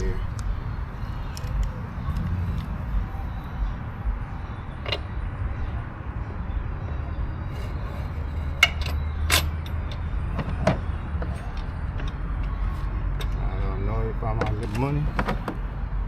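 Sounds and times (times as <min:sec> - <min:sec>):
steady low rumble: 0:00.0 - 0:14.7.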